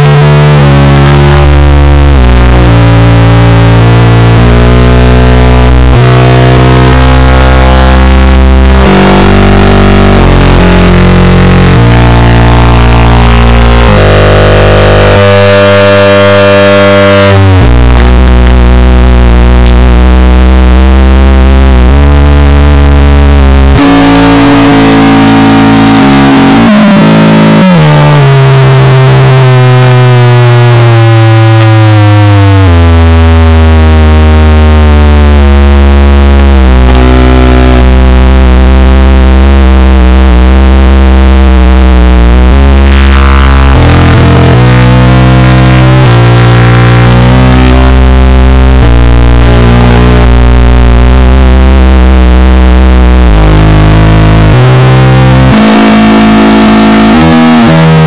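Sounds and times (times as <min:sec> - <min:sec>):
distorted electronic drone: 0:00.0 - 0:58.0.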